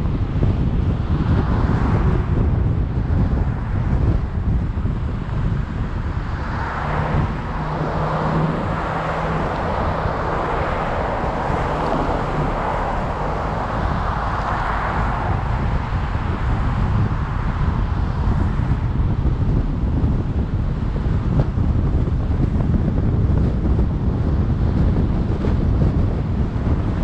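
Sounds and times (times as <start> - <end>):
traffic rushing: 0.0 - 27.0
wind on microphone: 0.0 - 27.0.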